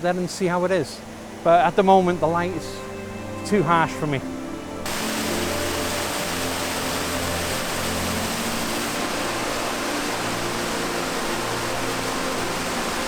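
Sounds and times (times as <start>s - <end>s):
faint background music: 0.0s - 13.0s
waterfall roaring: 0.0s - 13.0s.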